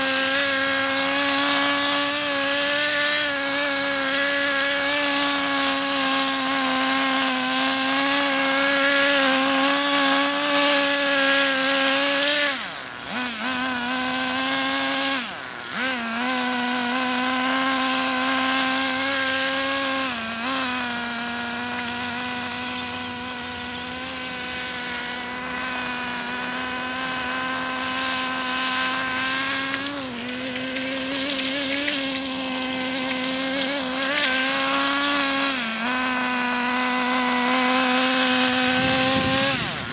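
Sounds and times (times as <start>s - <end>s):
model car engine running at high revs: 0.0s - 39.9s.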